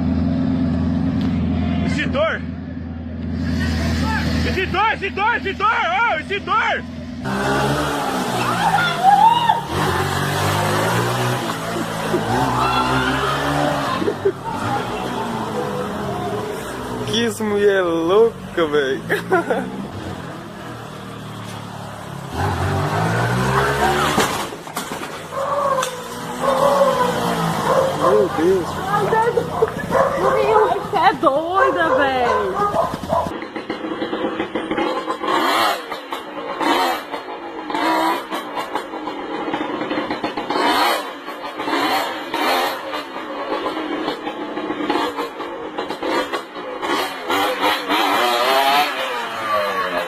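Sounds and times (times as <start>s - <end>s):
motorcycle engine revving: 7.0s - 50.0s.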